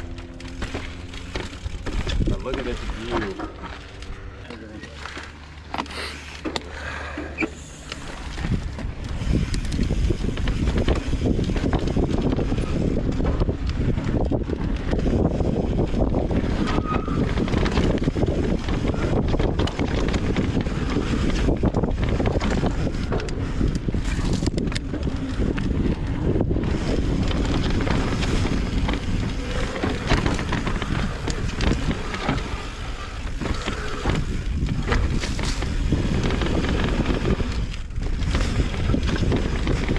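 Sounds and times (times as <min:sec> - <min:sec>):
wind rushing over microphone: 0:00.0 - 0:04.4, 0:07.8 - 0:39.9
bike knocking and rattling: 0:00.0 - 0:39.9.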